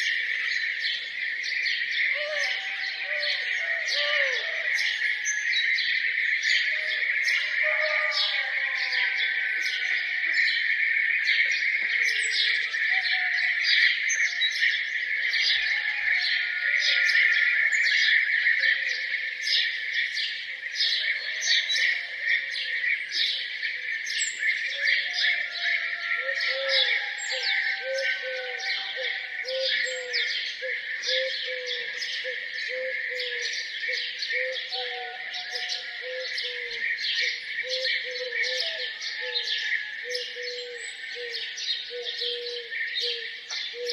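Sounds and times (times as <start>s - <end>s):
songbirds chorus chirping: 0.0s - 43.9s.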